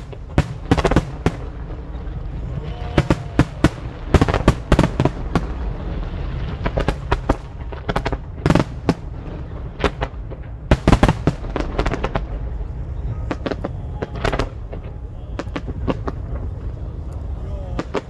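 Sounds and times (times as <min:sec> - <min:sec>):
deep rumble of booms: 0:00.0 - 0:18.0.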